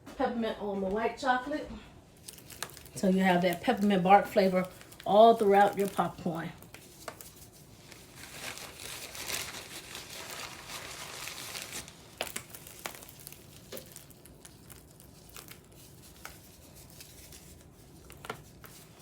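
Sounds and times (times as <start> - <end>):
candy crinkling and rustling: 2.2 - 19.0.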